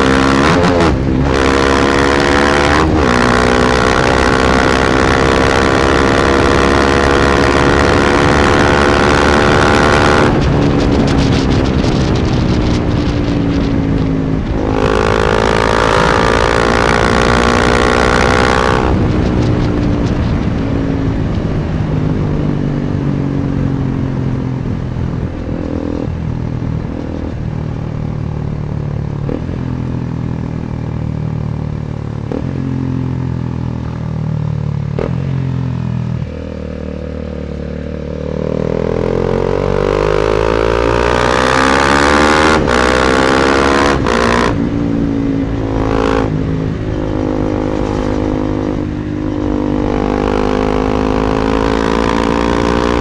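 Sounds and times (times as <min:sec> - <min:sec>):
wind noise on microphone: 0:00.0 - 0:30.9, 0:38.2 - 0:53.0
motorcycle engine revving: 0:00.0 - 0:53.0.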